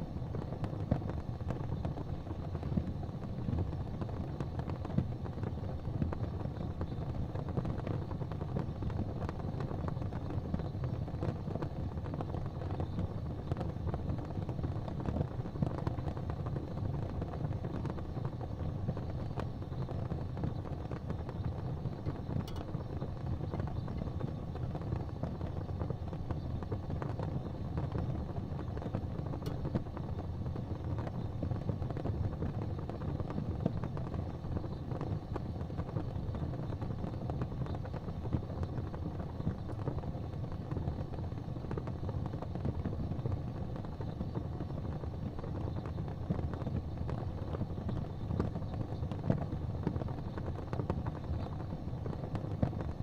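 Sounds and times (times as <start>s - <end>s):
steady low fire rumble: 0.0s - 53.0s
wood fire crackling: 0.0s - 53.0s.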